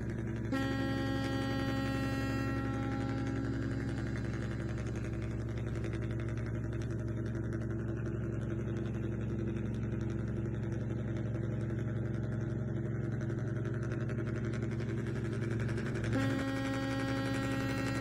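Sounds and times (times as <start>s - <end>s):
model vehicle engine hum: 0.0s - 18.0s.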